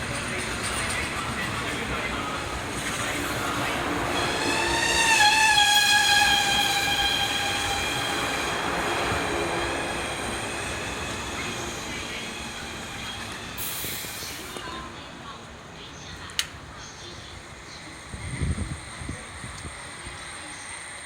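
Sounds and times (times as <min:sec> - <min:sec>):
electric train arriving: 0:00.0 - 0:21.0.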